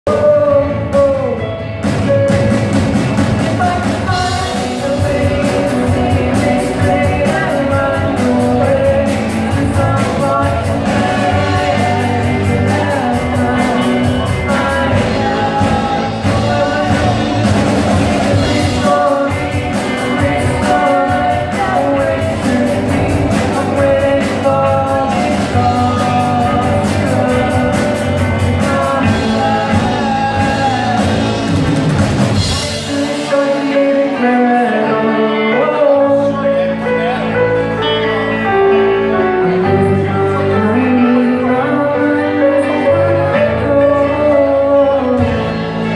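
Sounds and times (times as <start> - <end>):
drums: 0.0 - 45.9
person singing: 0.0 - 45.9
electric guitar: 0.1 - 45.9.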